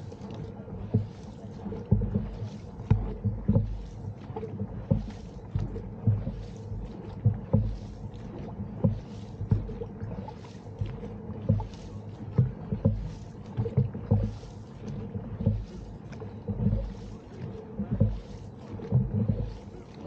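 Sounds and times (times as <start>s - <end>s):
paddles splashing in water: 0.0s - 20.0s.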